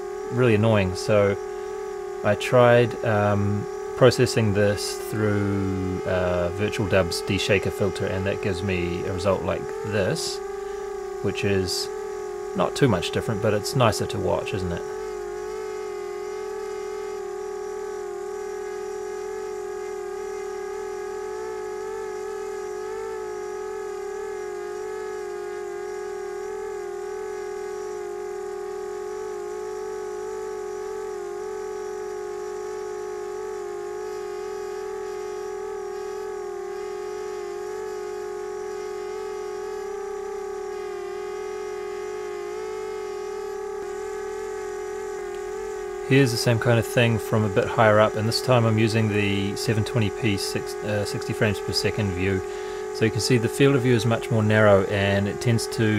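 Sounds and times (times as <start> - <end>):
quadcopter motors whining: 0.0 - 55.9.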